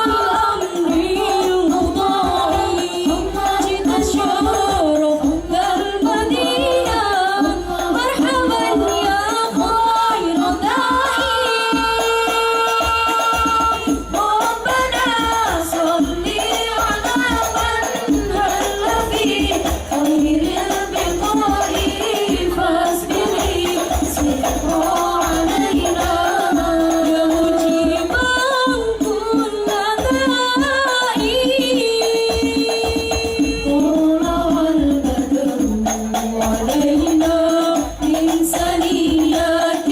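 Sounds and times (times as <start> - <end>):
frame drums playing rhythm: 0.0 - 39.9
person singing devotional melody: 0.0 - 39.9.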